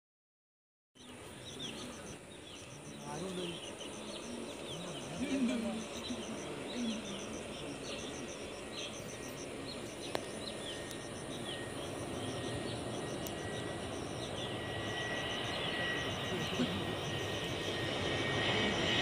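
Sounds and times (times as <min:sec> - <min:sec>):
distant airliner rumble: 0:01.0 - 0:19.0
insects chirping: 0:01.0 - 0:19.0.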